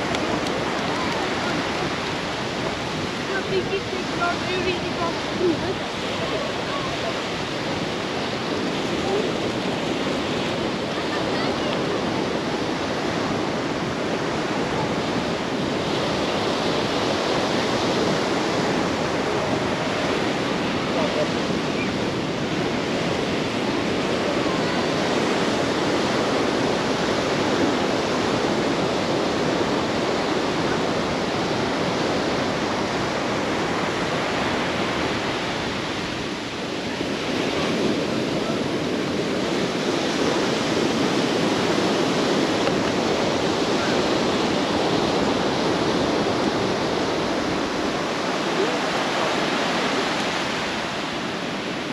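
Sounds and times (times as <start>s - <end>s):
waves breaking on beach: 0.0s - 51.9s.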